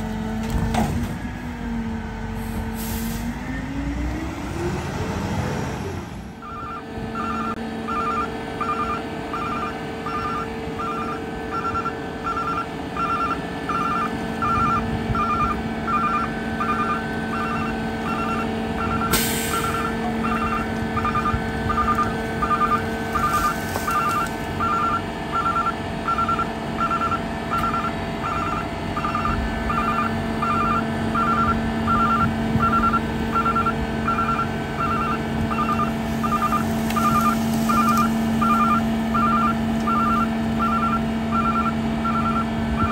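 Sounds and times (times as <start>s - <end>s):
garbage truck engine revving: 0.0s - 42.9s
warning beeper: 6.4s - 42.9s.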